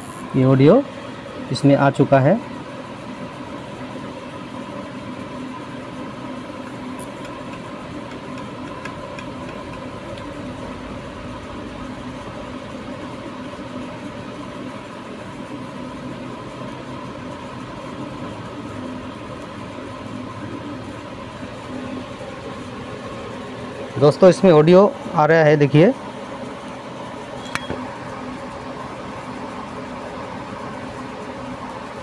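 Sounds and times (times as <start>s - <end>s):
speaker humming and hissing: 0.0s - 32.0s.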